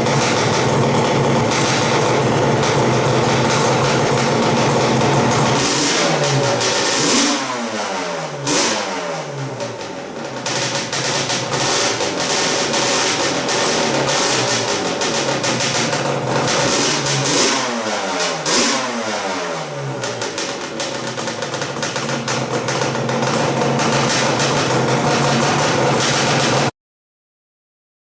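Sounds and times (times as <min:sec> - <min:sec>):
two-stroke engine revving: 0:00.0 - 0:26.7.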